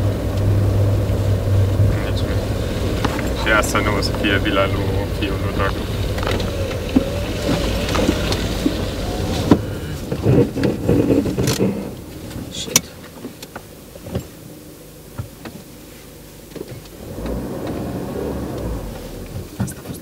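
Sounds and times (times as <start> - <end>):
knocks and rattles of car: 0.0 - 14.5, 15.1 - 15.7, 16.4 - 20.0
car engine and tyres rumbling: 0.0 - 20.0.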